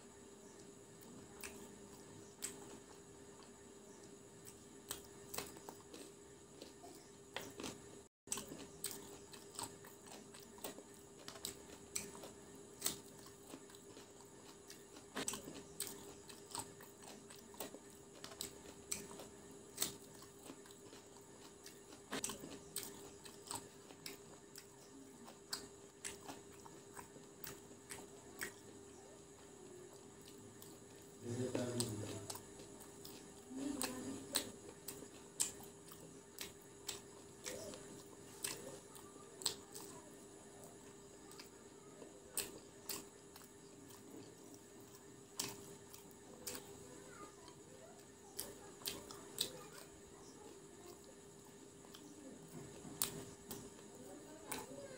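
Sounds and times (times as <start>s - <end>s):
crunchy chewing: 0.0s - 54.9s
faint steady hum: 0.0s - 54.9s.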